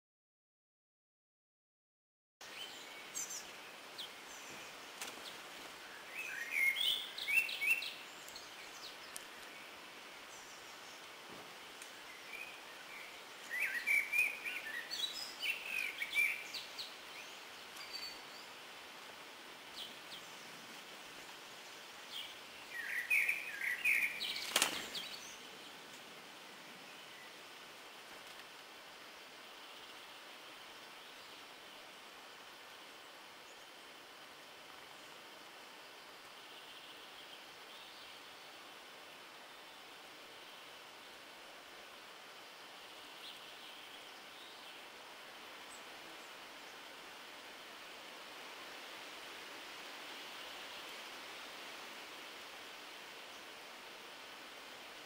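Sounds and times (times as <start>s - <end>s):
songbirds chirping: 2.4s - 55.0s
steady hiss: 2.4s - 55.0s.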